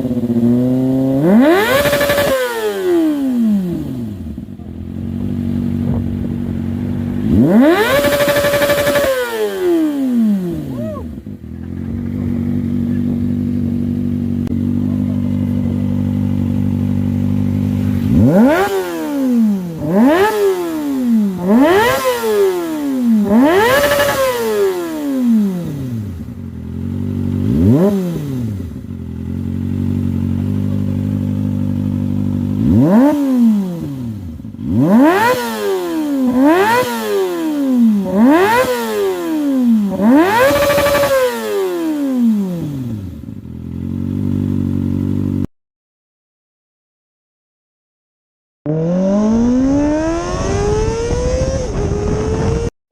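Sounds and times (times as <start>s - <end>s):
motorcycle engine idling and revving: 0.0s - 45.5s, 48.6s - 52.8s.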